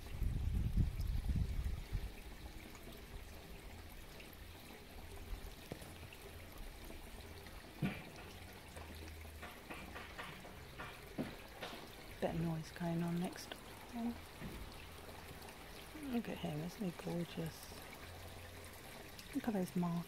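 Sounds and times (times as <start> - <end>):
fountain splashing water: 0.0 - 20.0.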